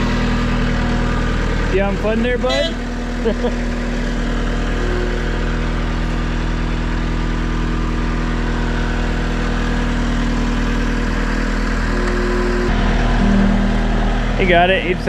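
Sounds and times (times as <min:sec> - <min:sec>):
heavy equipment engine idling: 0:00.0 - 0:15.0.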